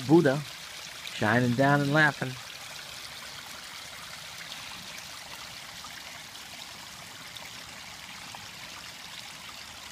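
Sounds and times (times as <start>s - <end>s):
water trickling and splashing: 0.0s - 9.9s.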